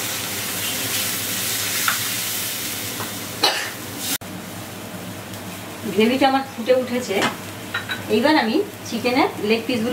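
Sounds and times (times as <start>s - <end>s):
masala sizzling in oil: 0.0s - 9.9s.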